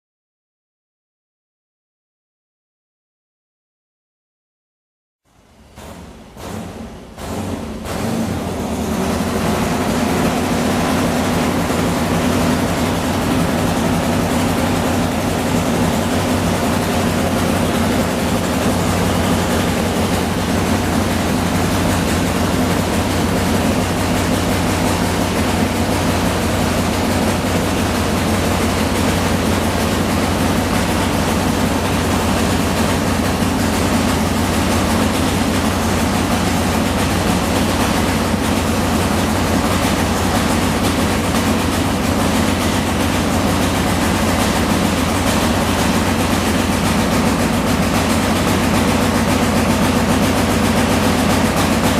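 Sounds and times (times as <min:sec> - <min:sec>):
motorcycle engine idling loudly: 0:05.5 - 0:51.9.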